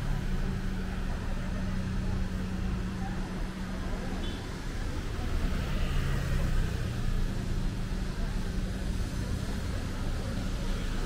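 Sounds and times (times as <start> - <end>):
outdoor street noise: 0.0 - 11.0.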